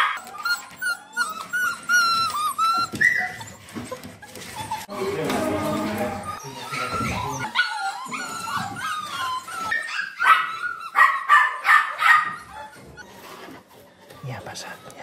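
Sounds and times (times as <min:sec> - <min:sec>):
puppies whining and yelping: 0:00.0 - 0:15.0.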